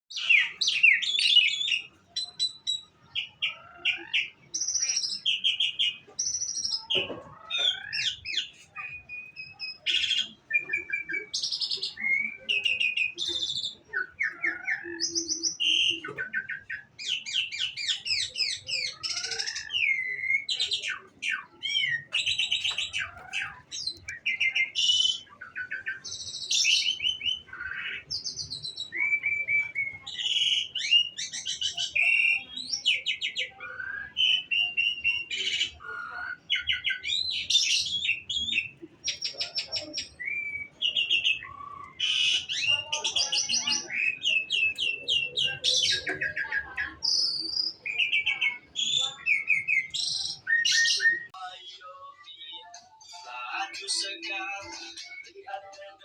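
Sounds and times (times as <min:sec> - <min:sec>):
bird song chirps and trills: 0:00.1 - 0:56.0.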